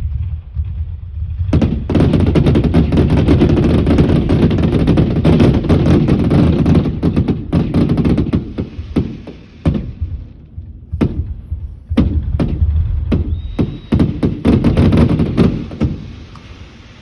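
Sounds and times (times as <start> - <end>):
fireworks exploding with bangs: 0.0 - 17.0.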